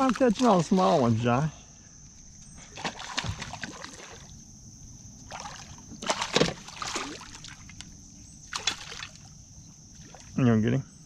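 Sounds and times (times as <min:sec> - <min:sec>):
water splashing and sloshing: 0:00.0 - 0:01.3, 0:02.6 - 0:10.4.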